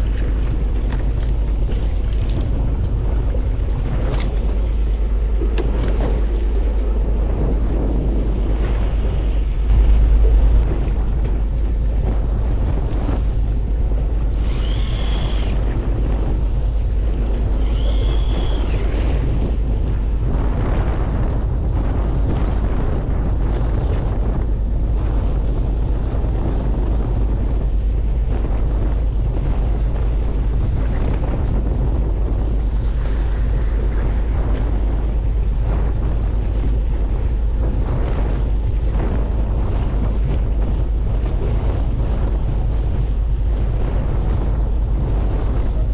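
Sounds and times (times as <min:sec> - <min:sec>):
boat engine rumbling: 0:00.0 - 0:45.9
water against hull: 0:00.0 - 0:45.9
wind buffeting microphone: 0:00.0 - 0:45.9.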